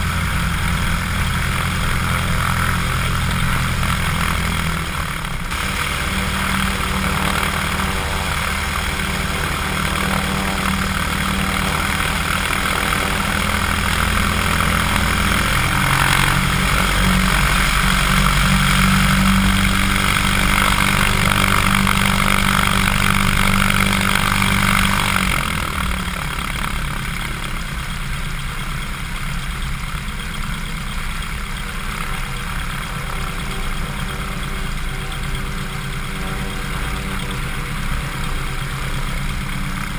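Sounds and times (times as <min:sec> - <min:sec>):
small plane engine and propeller: 0:00.0 - 0:39.9.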